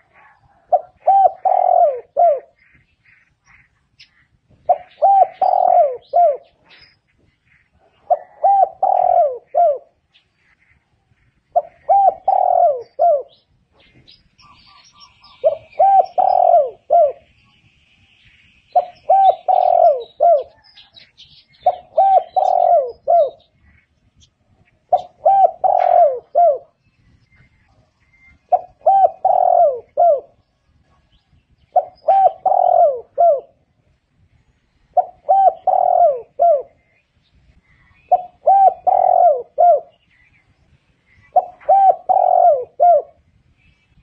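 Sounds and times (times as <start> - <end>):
dove cooing: 0.0 - 17.4, 18.7 - 23.8, 24.8 - 26.8, 27.4 - 34.0, 34.9 - 40.5, 41.1 - 43.3.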